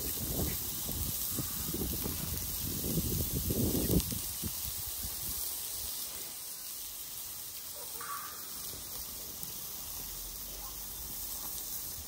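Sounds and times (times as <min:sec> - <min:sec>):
meat sizzling on grill: 0:00.0 - 0:12.0.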